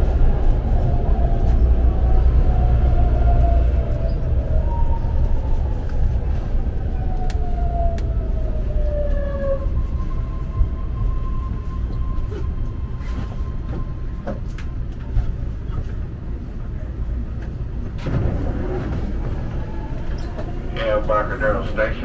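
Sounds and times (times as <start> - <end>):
train rumble: 0.0 - 22.0
train whine: 0.0 - 22.0.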